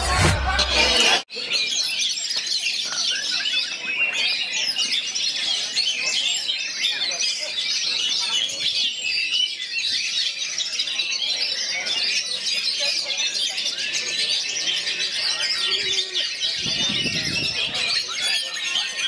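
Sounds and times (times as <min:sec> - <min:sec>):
birds whistling and chirping: 0:00.6 - 0:19.0.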